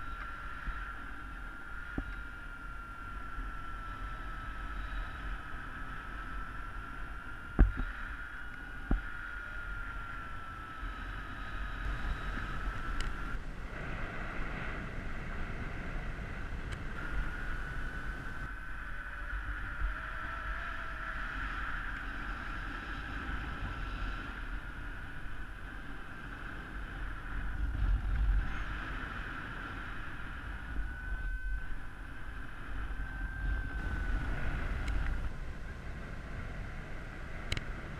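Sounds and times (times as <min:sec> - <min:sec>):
thin wavering whistling tone: 0:00.0 - 0:37.9
wind rushing past helmet: 0:00.0 - 0:37.9.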